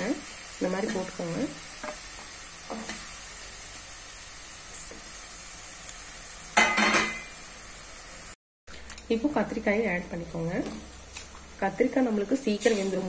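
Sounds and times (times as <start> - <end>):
food sizzling in metal pan: 0.0 - 8.4, 9.1 - 13.0.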